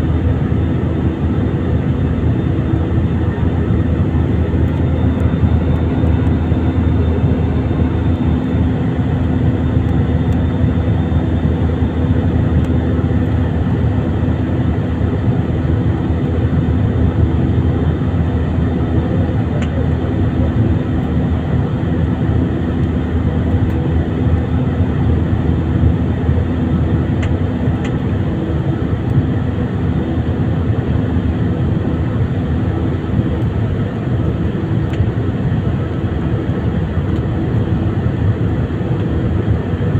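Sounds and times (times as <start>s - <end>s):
constant hum: 0.0s - 39.9s
jet engines rumbling: 0.0s - 39.9s.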